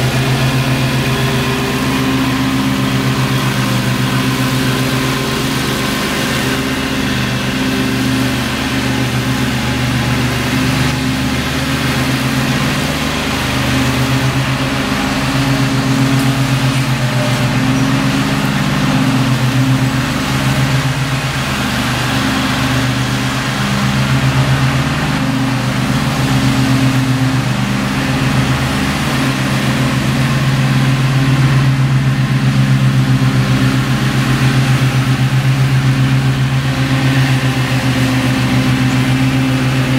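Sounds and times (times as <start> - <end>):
mower engine cutting grass: 0.0 - 39.9.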